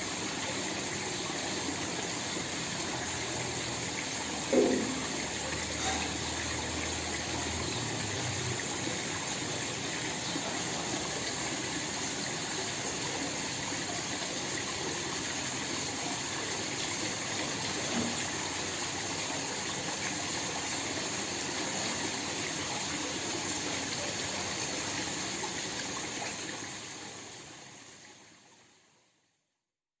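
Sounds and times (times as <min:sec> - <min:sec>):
small waterfall rushing: 0:00.0 - 0:28.9.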